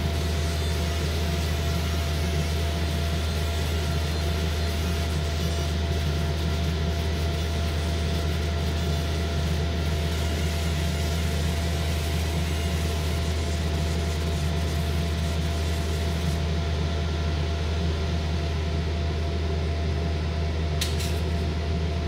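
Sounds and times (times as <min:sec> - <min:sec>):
machine hum with low drone: 0:00.0 - 0:22.0.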